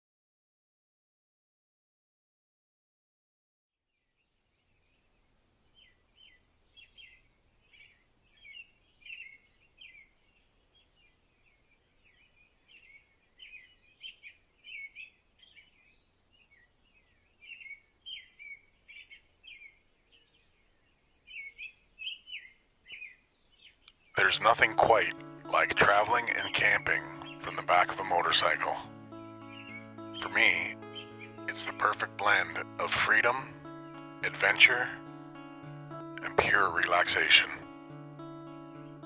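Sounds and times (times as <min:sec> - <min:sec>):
birds chirping: 0:04.3 - 0:39.0.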